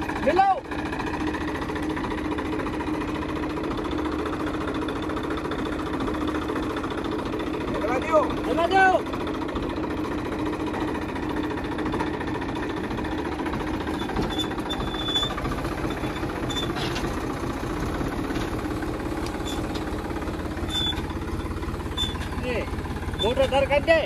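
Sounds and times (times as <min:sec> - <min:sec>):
tractor diesel engine chugging: 0:00.0 - 0:24.0.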